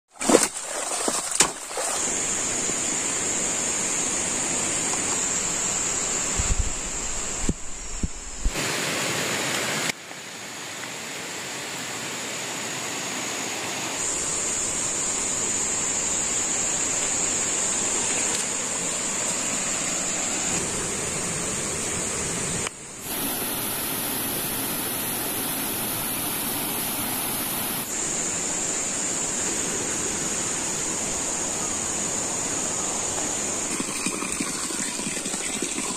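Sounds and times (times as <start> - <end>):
rushing water-like noise: 0.1 - 35.9
high insect drone: 0.3 - 35.9.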